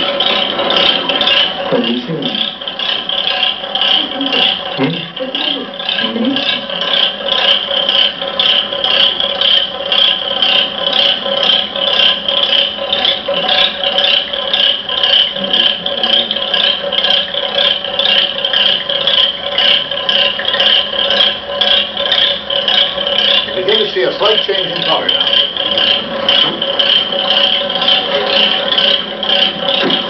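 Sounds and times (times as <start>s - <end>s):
magnetic stirrer whirring: 0.0s - 30.0s.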